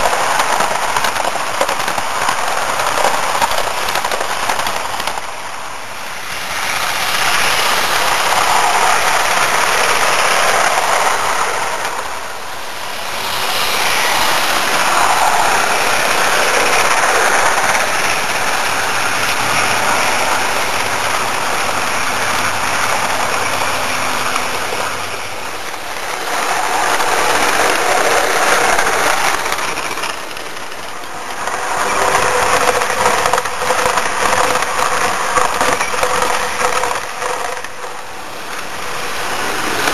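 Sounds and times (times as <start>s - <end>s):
model train rolling whirr: 0.0s - 39.9s.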